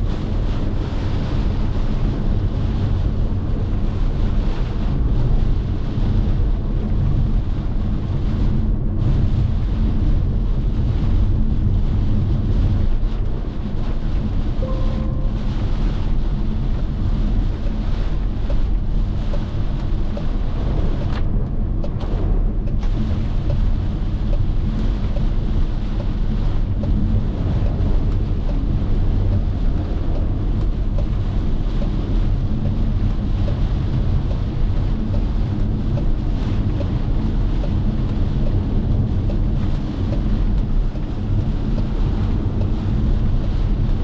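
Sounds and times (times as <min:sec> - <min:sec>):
tyres and engine rumble: 0:00.0 - 0:44.0
wind buffeting microphone: 0:00.0 - 0:44.0.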